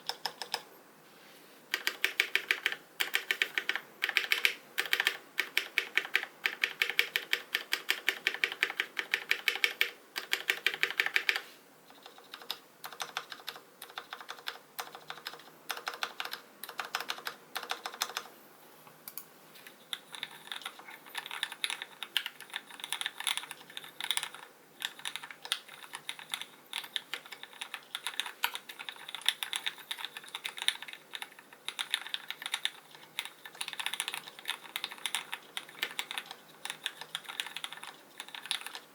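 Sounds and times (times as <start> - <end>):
mechanical keyboard typing: 0.0 - 0.7, 1.7 - 18.3, 19.9 - 38.9.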